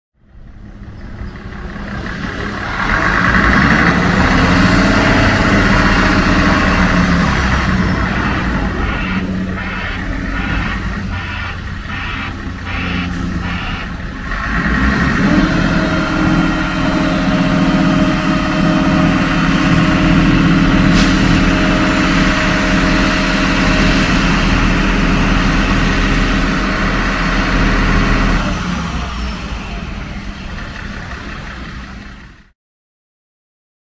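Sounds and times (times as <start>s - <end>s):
truck engine revving: 0.3s - 32.5s.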